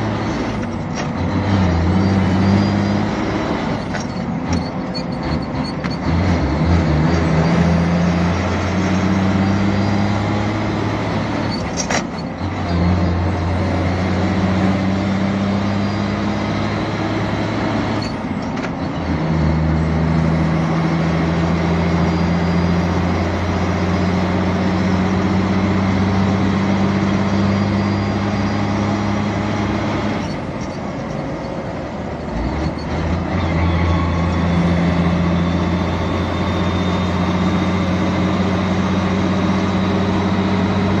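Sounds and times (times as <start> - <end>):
truck diesel engine under load: 0.0 - 41.0.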